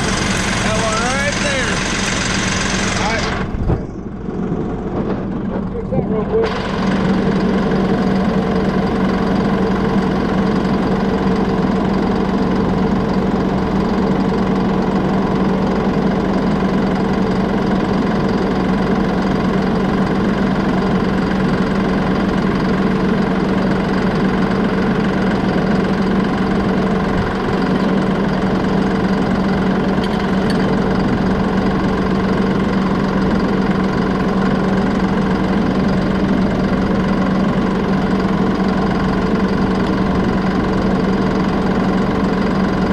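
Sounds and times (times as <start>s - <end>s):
diesel tractor engine idling: 0.0s - 42.9s.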